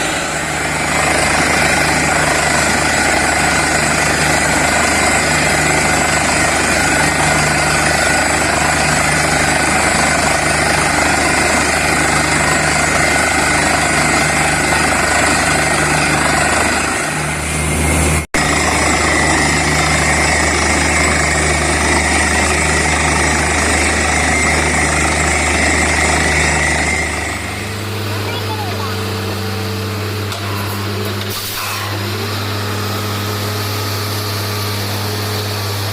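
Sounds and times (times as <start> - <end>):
drilling rig and compressor clattering: 0.0 - 35.9.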